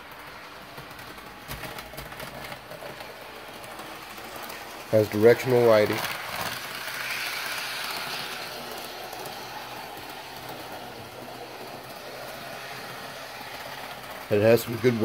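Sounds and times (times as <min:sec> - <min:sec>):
model train motor humming: 0:00.0 - 0:15.0
wheels rolling on rails: 0:00.0 - 0:15.0.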